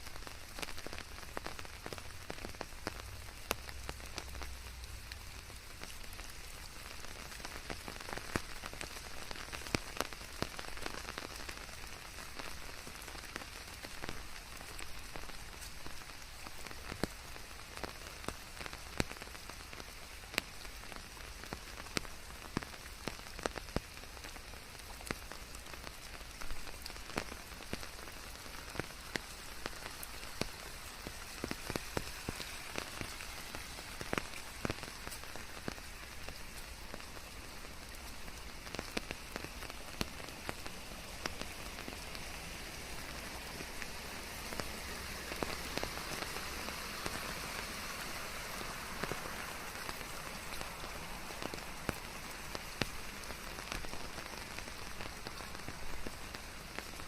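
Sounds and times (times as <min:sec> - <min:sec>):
rain drops ticking: 0:00.0 - 0:57.0
rain hiss: 0:00.0 - 0:57.0.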